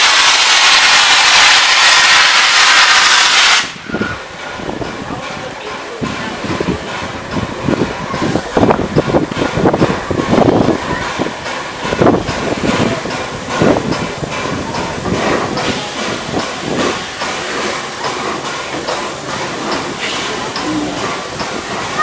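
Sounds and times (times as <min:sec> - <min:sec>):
steam hiss: 0:00.0 - 0:22.0
steam locomotive exhaust beats: 0:00.0 - 0:22.0
wheels clattering over rail joints: 0:04.3 - 0:22.0.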